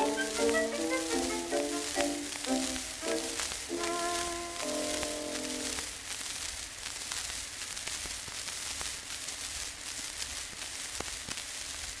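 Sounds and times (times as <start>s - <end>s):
record hiss and crackle: 0.0s - 12.0s.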